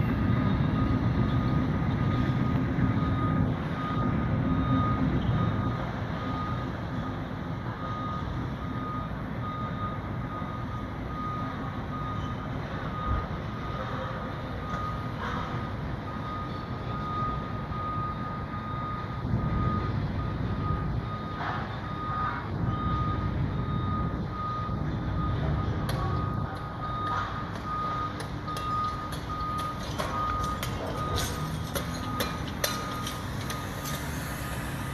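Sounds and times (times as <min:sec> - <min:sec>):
diesel engine rumble: 0:00.0 - 0:34.9
backup alarm beeping: 0:00.1 - 0:07.2, 0:07.8 - 0:13.9, 0:14.5 - 0:15.2, 0:15.9 - 0:34.9.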